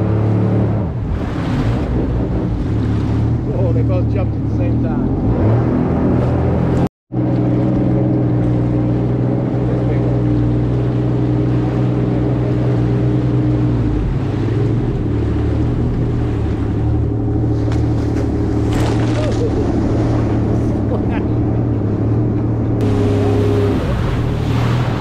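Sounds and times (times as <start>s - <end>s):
jet ski engine running: 0.0s - 25.0s.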